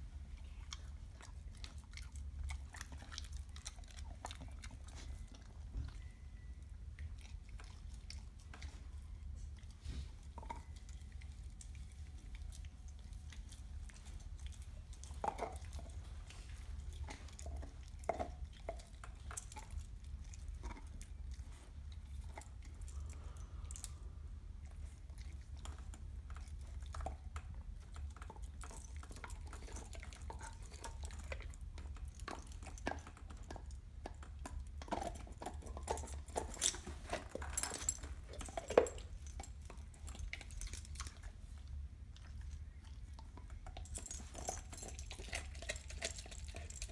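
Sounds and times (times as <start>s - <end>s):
dog chewing bone: 0.3s - 6.2s, 9.6s - 23.7s, 24.6s - 46.9s.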